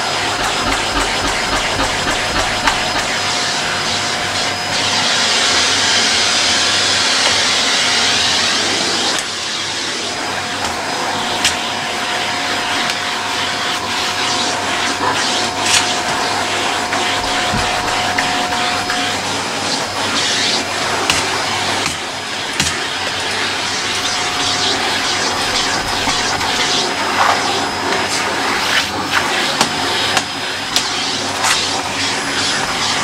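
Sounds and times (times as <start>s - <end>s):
vacuum cleaner running: 0.0s - 33.0s
vacuum hose on carpet: 0.0s - 33.0s.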